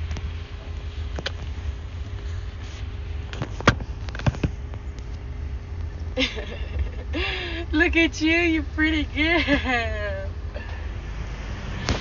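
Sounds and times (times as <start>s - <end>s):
faint steady hum: 0.0s - 12.0s
low rumble in car cabin: 0.0s - 12.0s.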